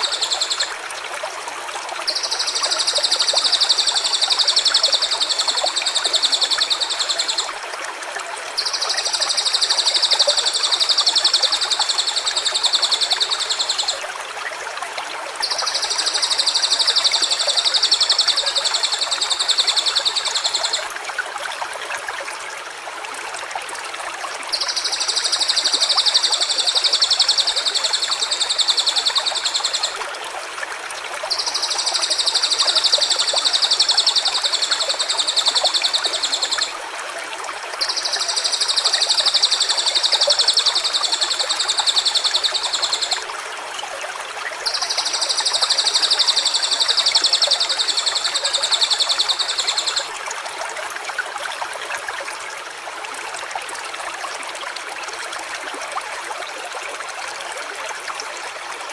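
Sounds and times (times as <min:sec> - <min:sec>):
running stream: 0:00.0 - 0:58.9.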